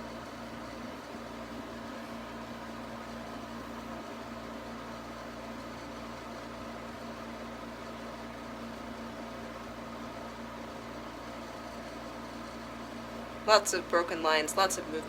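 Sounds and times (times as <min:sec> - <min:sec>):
steady background hum and hiss: 0:00.0 - 0:15.0.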